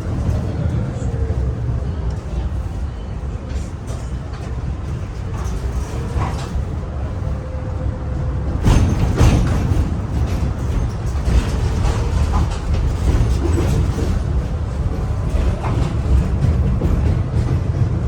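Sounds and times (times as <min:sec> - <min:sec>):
tram rumbling along rails: 0:00.0 - 0:18.0.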